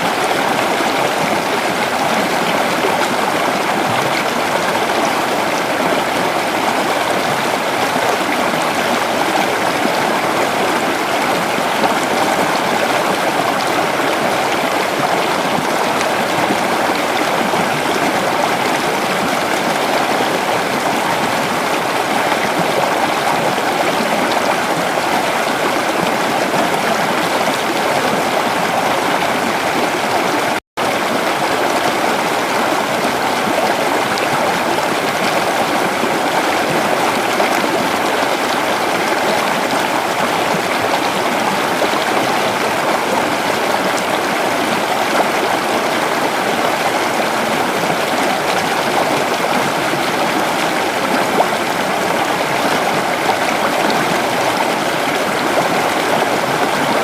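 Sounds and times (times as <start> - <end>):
creek water babbling over rocks: 0.0 - 57.0.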